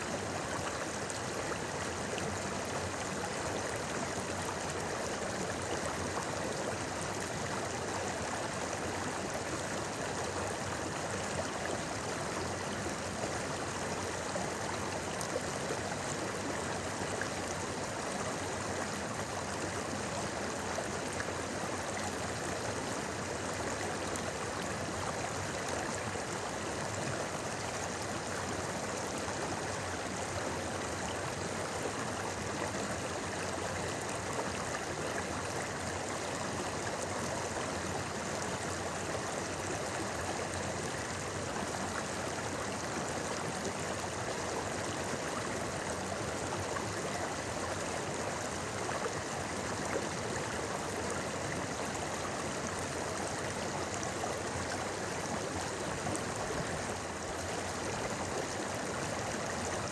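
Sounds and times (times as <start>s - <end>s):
river water babbling: 0.0s - 59.9s.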